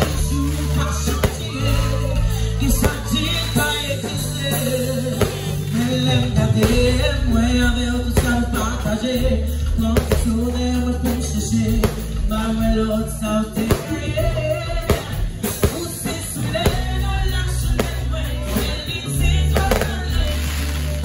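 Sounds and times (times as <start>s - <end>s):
live band playing: 0.0s - 21.0s
woman singing: 0.0s - 21.0s.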